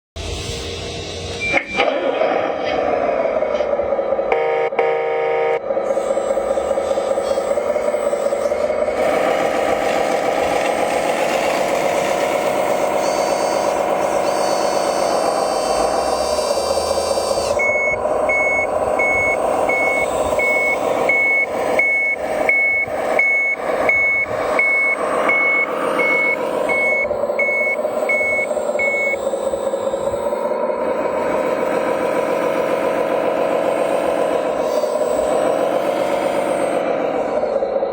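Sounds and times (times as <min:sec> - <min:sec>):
heavy vehicle engine drone: 0:00.0 - 0:37.9
reversing alarm beeping: 0:00.2 - 0:01.9, 0:03.6 - 0:37.9.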